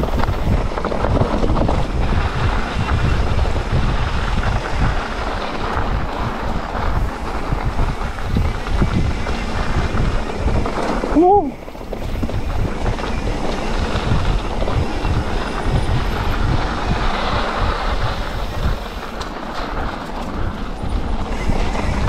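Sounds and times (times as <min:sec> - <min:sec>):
mountain bike rumble and rattle: 0:00.0 - 0:22.0
wind on microphone: 0:00.0 - 0:22.0.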